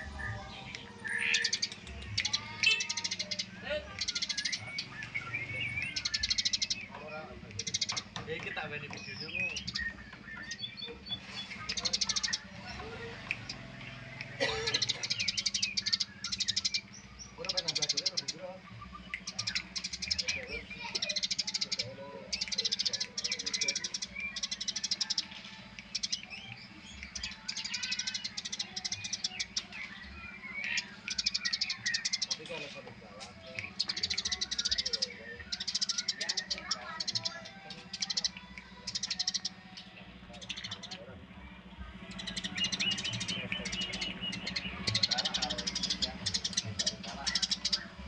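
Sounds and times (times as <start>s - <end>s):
sparrows chattering chirps: 0.0s - 48.0s
steady low hum: 0.0s - 48.0s.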